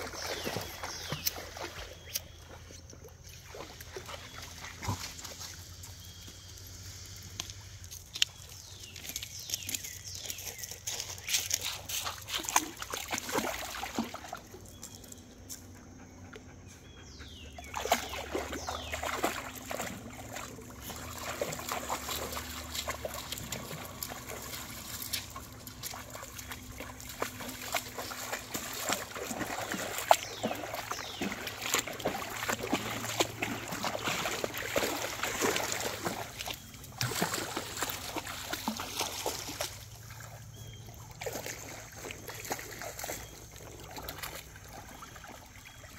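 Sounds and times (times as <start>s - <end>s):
trickling water: 0.0s - 16.7s, 17.5s - 45.9s
dogs splashing through water: 0.0s - 45.9s.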